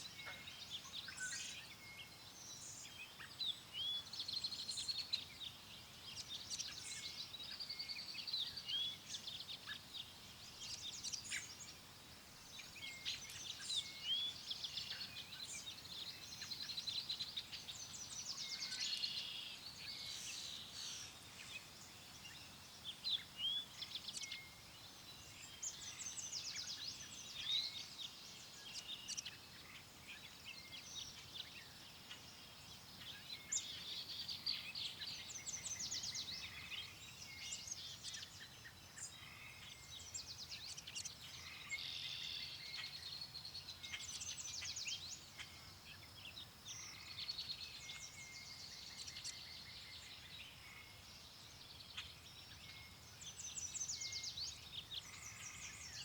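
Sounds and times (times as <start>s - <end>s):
faint steady background hiss: 0.0s - 56.0s
small birds singing and chirping: 0.0s - 56.0s.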